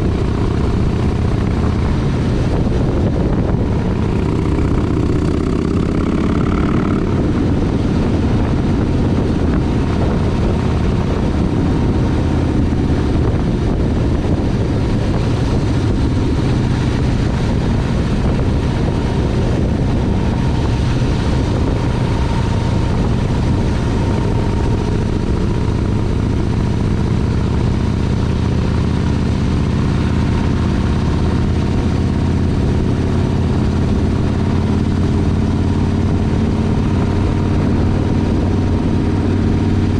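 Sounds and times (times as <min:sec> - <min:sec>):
constant rush of noise: 0:00.0 - 0:39.9
motorcycle engine drone: 0:00.0 - 0:39.9.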